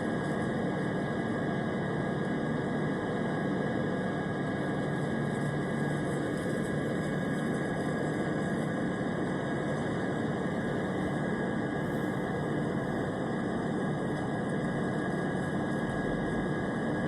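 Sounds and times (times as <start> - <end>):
airplane engine drone: 0.0 - 17.0
faint high whine: 0.0 - 17.0.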